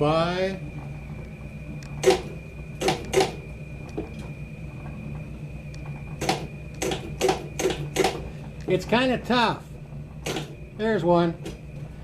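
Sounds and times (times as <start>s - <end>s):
ride motor humming and whining: 0.0s - 12.0s.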